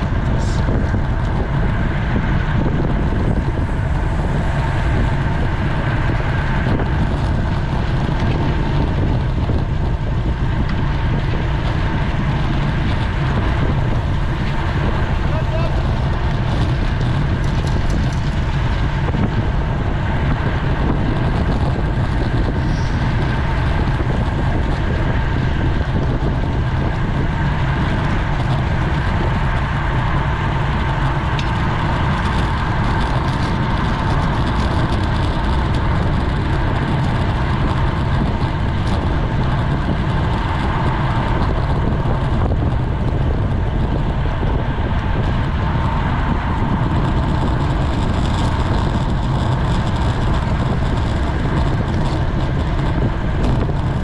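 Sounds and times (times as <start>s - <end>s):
tyre and road noise: 0.0s - 54.0s
wind rush on microphone: 0.0s - 54.0s.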